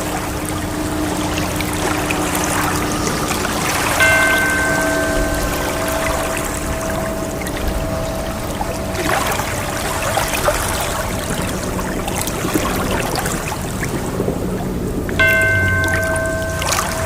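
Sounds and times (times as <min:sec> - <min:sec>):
faint steady tone: 0:00.0 - 0:17.0
ocean waves washing: 0:00.0 - 0:17.0.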